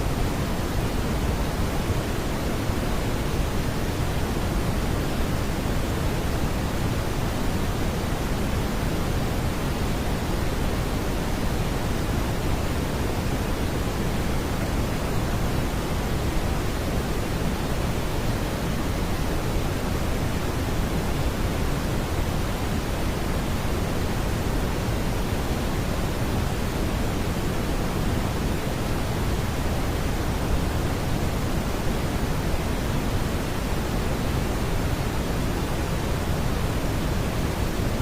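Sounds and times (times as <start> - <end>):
brown noise hiss: 0.0 - 38.0.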